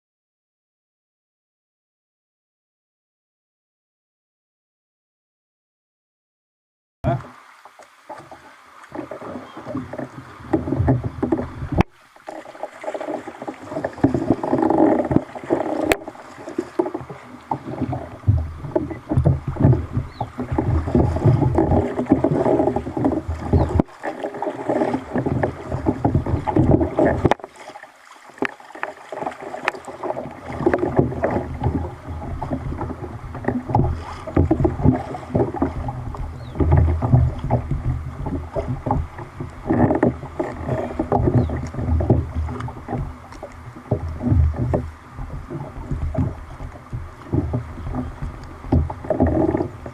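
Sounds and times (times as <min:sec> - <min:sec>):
water splashing around a kayak: 0:07.1 - 0:49.9.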